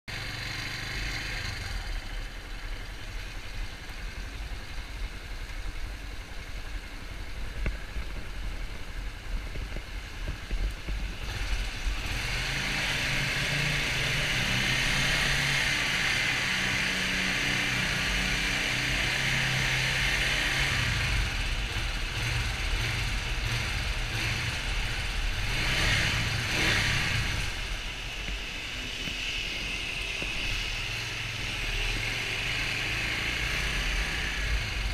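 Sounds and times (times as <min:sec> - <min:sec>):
motorcycle engine revving: 0:00.1 - 0:05.6, 0:07.6 - 0:34.9.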